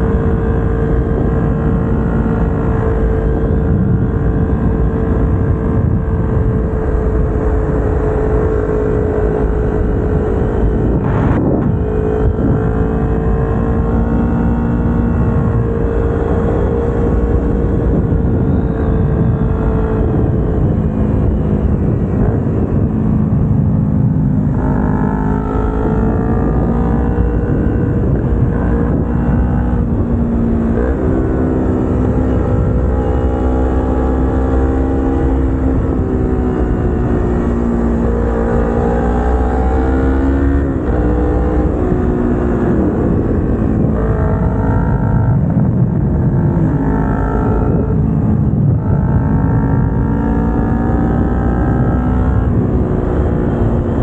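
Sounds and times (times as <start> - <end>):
motorcycle engine running: 0.0 - 54.0
wind rumble: 0.0 - 54.0.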